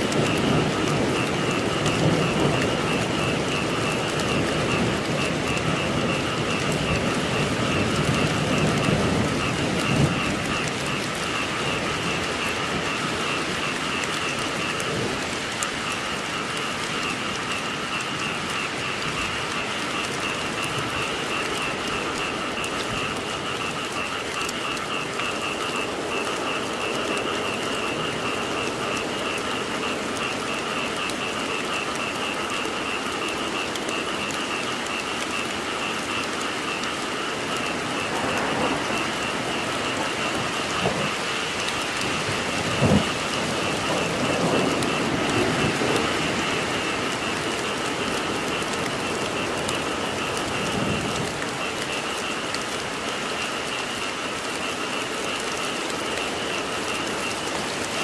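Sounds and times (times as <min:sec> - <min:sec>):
frogs croaking in chorus: 0:00.0 - 0:58.0
rain falling: 0:00.0 - 0:58.0.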